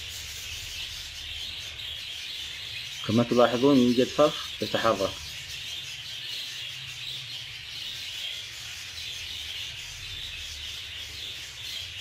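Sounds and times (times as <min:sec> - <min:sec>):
budgerigars chattering: 0:00.0 - 0:12.0.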